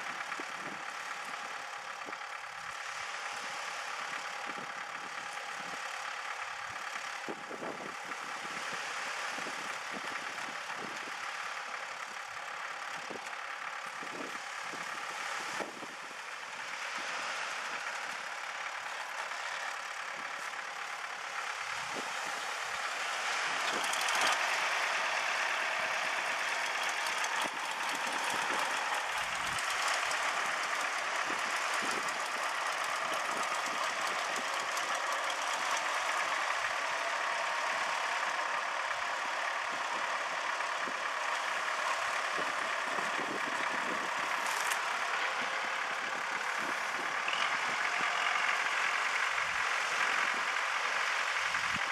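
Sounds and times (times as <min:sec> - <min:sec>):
diesel tractor engine: 0:00.0 - 0:51.9.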